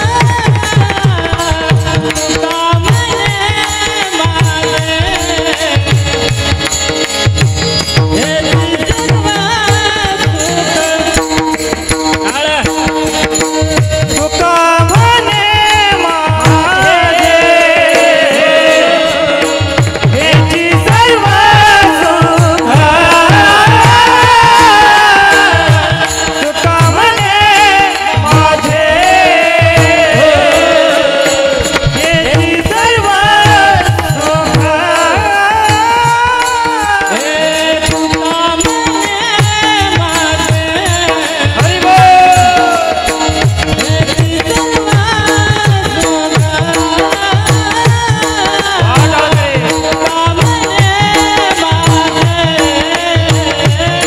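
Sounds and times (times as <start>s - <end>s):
devotional singing: 0.0s - 54.0s
held accompaniment: 0.0s - 54.0s.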